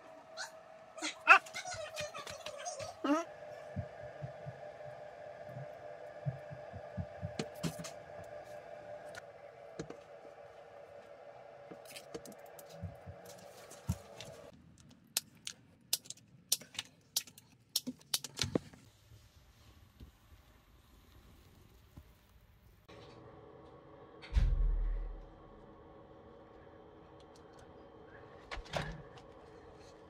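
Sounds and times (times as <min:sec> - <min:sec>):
steady background hum: 0:00.0 - 0:18.6, 0:22.9 - 0:30.0.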